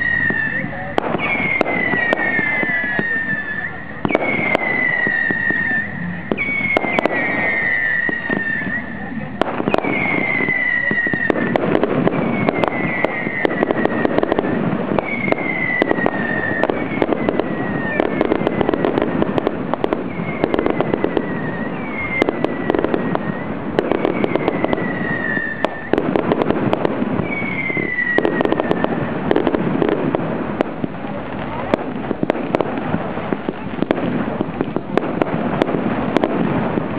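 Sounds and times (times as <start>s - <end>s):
fireworks crackling and popping: 0.0s - 36.9s
whistling firework: 0.0s - 36.9s.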